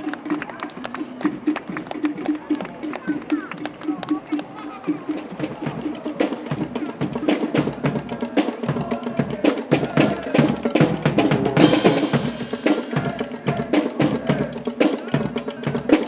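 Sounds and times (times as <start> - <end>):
snare and bass drums beat: 0.0 - 16.0.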